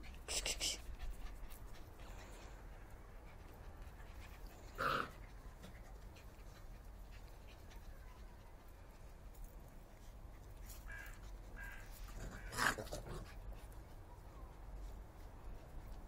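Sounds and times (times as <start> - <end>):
puppies playing: 0.0 - 16.0.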